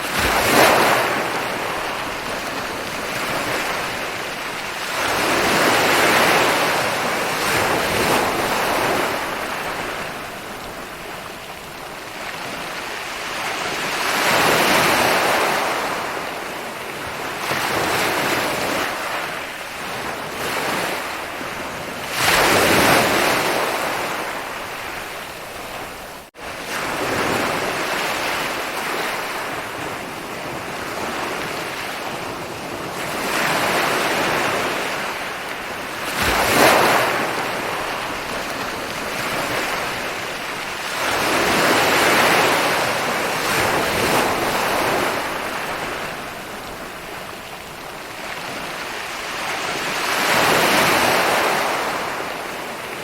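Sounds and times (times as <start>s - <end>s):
ocean waves breaking on beach: 0.0s - 53.0s.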